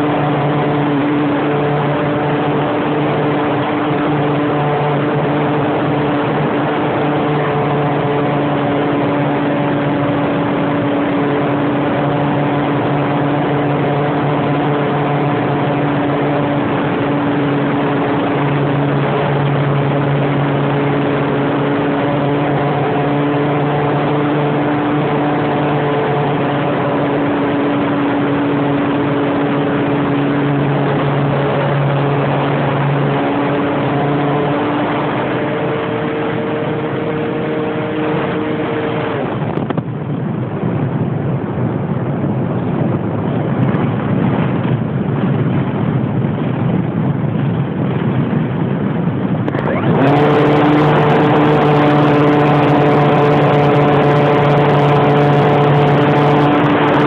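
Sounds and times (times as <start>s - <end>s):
propeller aircraft engine drone: 0.0s - 57.0s.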